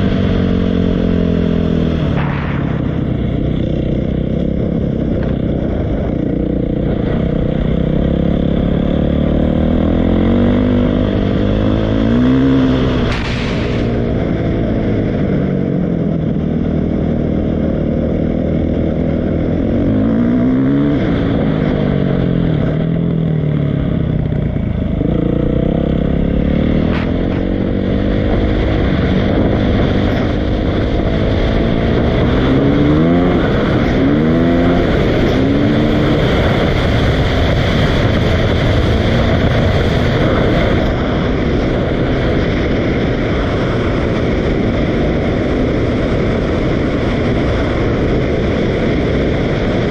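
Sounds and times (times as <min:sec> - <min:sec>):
dirt bike engine revving: 0:00.0 - 0:14.6, 0:18.0 - 0:44.0.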